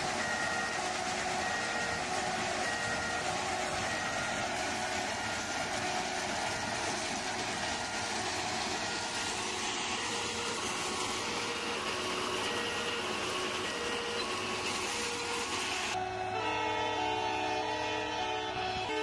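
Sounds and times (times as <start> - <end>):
ballast cleaning machine running: 0.0 - 19.0.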